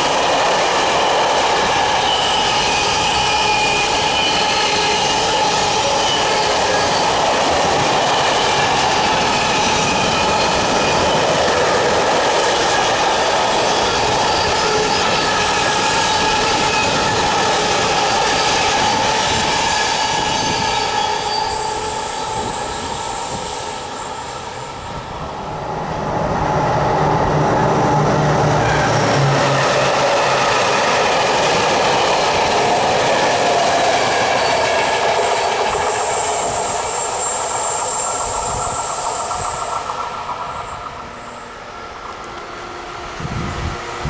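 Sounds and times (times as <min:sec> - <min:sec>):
diesel locomotive drone: 0:00.0 - 0:44.0
freight train rolling past: 0:00.0 - 0:44.0
train wheels squealing: 0:00.0 - 0:44.0.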